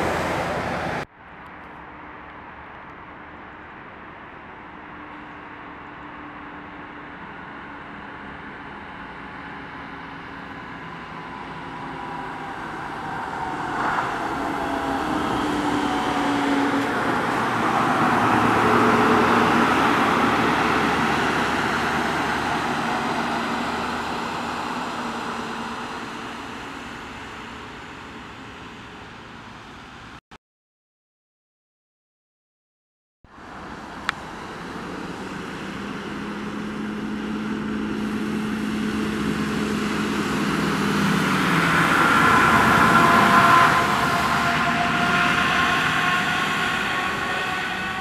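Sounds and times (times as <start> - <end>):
truck driving past on wet road: 0.0 - 1.1, 6.2 - 30.2, 33.4 - 48.0.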